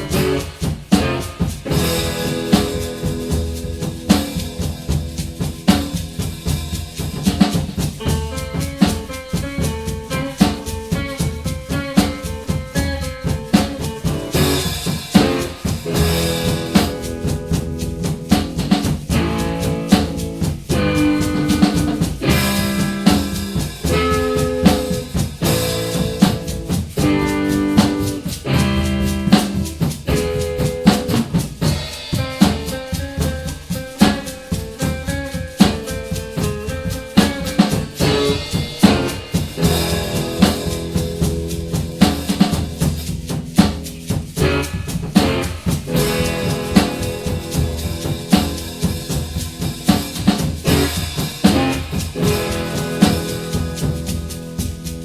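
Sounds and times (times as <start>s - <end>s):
drum kit playing: 0.0s - 55.0s.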